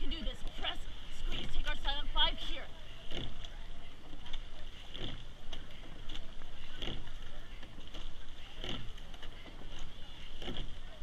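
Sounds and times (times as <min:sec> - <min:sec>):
oars thumping in oarlocks: 0:00.0 - 0:11.0
water rushing along a hull: 0:00.0 - 0:11.0
wind: 0:00.0 - 0:11.0.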